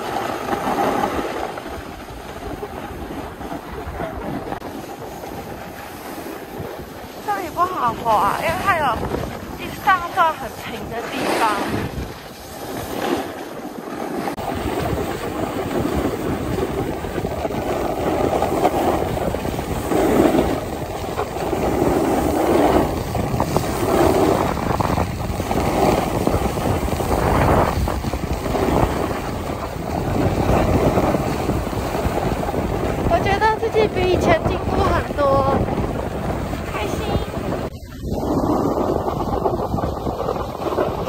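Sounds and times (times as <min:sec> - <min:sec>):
skis sliding on snow: 0:00.0 - 0:41.0
wind buffeting microphone: 0:00.0 - 0:41.0.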